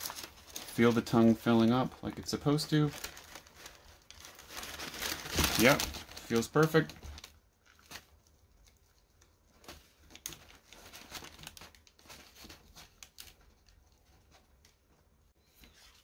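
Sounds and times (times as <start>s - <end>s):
light rustles of tissue paper: 0.0s - 16.0s.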